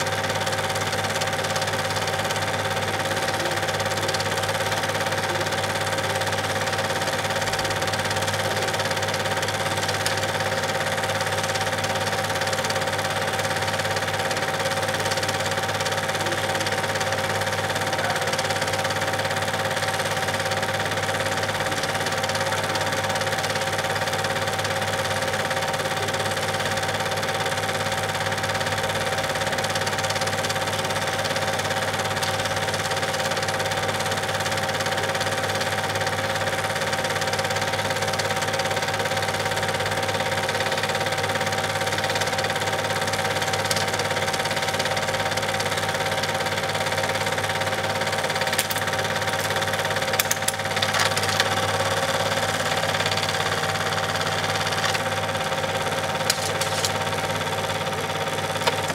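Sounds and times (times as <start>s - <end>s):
film projector whirring: 0.0s - 58.9s.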